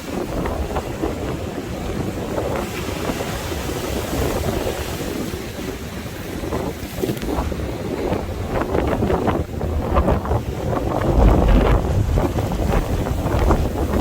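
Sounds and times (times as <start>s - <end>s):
sea waves surging on shore: 0.0s - 14.0s
wind buffeting microphone: 0.0s - 14.0s.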